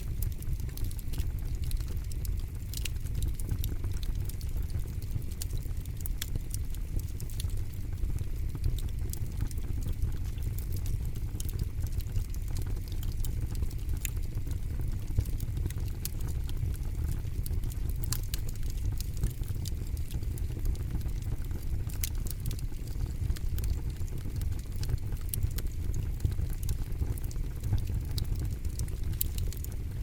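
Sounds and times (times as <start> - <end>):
low rush of flame: 0.0 - 30.0
wood crackling and popping: 0.0 - 30.0.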